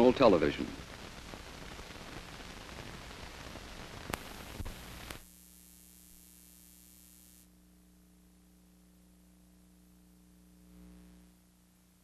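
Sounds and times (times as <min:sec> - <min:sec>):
film soundtrack hiss and crackle: 0:00.0 - 0:12.0
faint low hum: 0:02.1 - 0:12.0.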